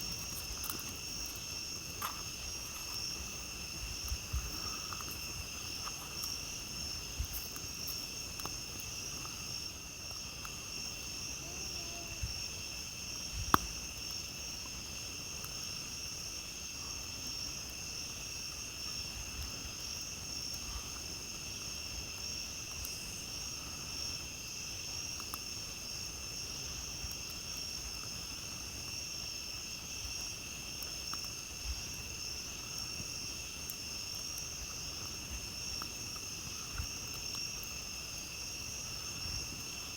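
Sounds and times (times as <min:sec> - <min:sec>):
campfire popping: 0:00.0 - 0:16.7, 0:17.3 - 0:39.9
night insects trilling: 0:00.0 - 0:39.9.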